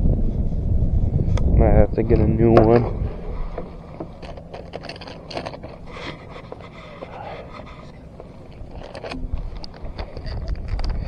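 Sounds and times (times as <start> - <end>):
wind rumble on microphone: 0.0 - 11.0
fishing tackle rubbing and clicking: 1.2 - 11.0.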